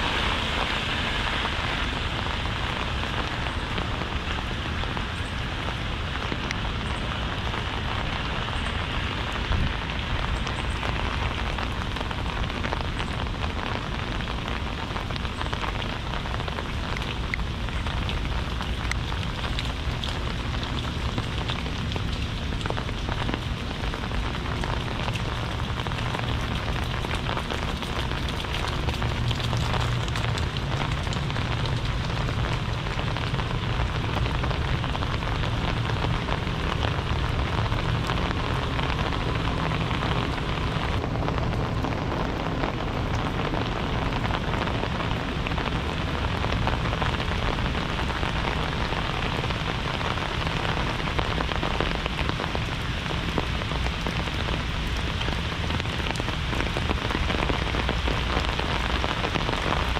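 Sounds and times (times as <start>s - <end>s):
heavy rain falling and splashing: 0.0s - 59.9s.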